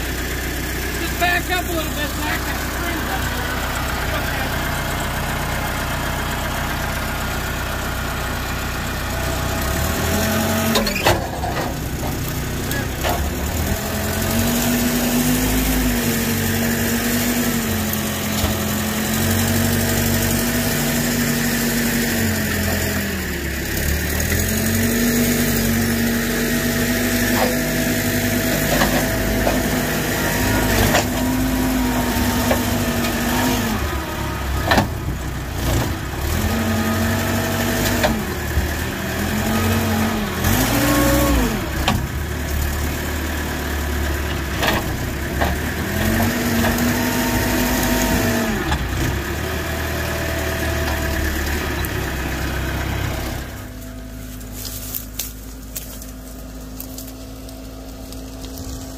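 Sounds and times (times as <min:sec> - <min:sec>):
diesel engine revving: 0:00.0 - 0:58.9.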